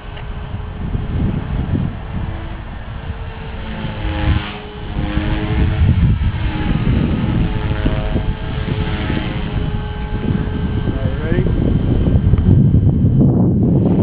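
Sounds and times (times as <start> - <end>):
rc helicopter motor whine: 0.0 - 14.0
wind buffeting microphone: 0.0 - 14.0.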